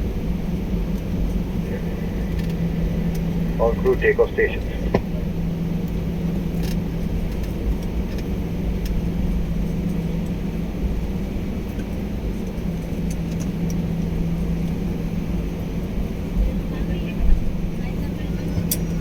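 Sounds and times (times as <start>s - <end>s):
airliner engines in cabin: 0.0s - 19.0s.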